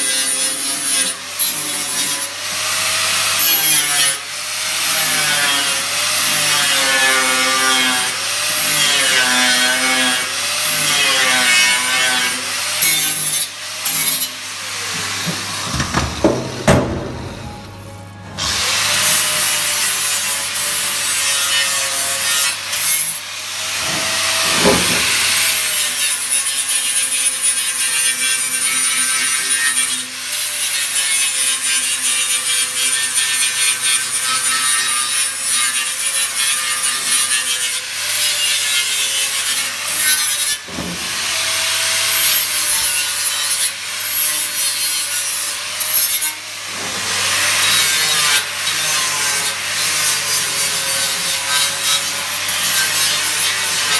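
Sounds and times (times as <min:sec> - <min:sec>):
power tool grinding steel: 0:00.0 - 0:53.9.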